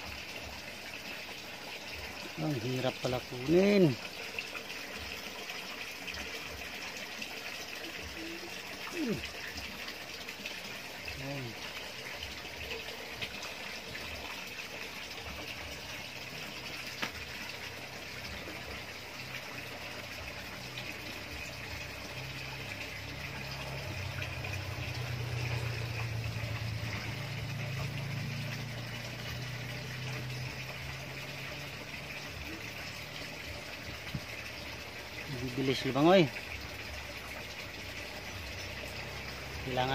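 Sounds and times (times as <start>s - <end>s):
water bubbling from air stone: 0.0s - 39.8s.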